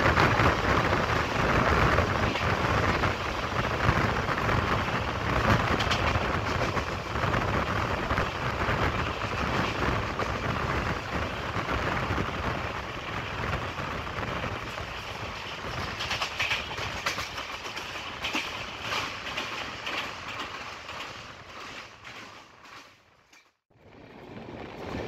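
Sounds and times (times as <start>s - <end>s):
train wind rush: 0.0s - 22.9s, 23.7s - 25.0s
wheel-on-rail noise: 0.0s - 25.0s.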